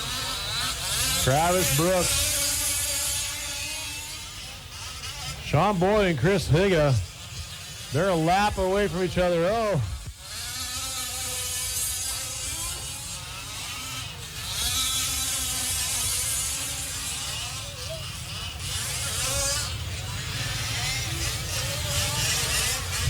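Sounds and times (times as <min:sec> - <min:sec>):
small two-stroke engines buzzing: 0:00.0 - 0:23.0.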